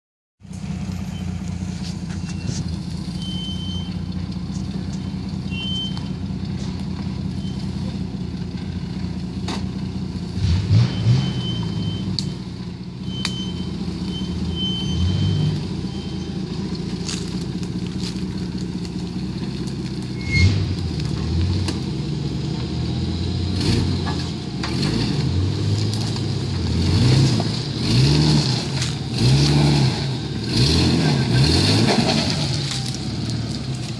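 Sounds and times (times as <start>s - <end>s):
car engine at low revs: 0.4s - 33.9s.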